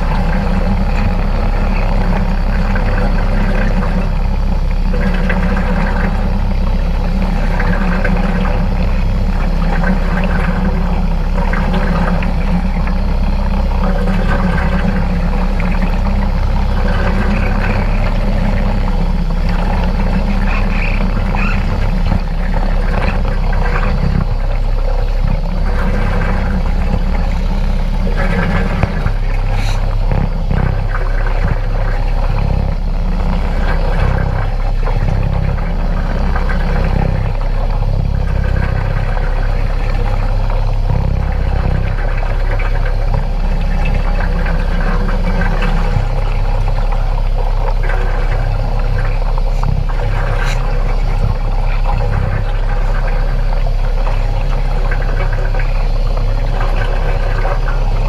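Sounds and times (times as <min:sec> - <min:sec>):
air bubbling underwater: 0:00.0 - 0:58.0
muffled underwater motor hum: 0:00.0 - 0:58.0.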